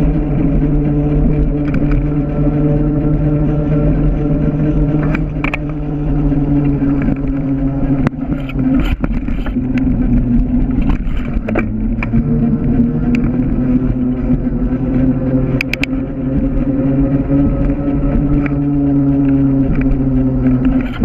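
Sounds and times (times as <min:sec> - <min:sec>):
bike tyres humming on pavement: 0:00.0 - 0:21.0
wind noise on microphone: 0:00.0 - 0:21.0.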